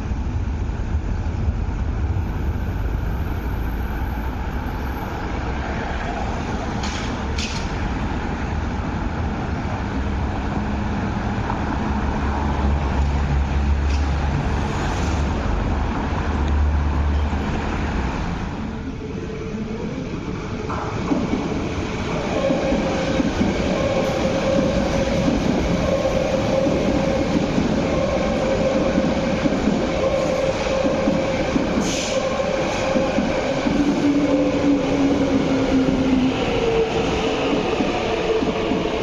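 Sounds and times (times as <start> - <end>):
busy road traffic: 0.0 - 39.0.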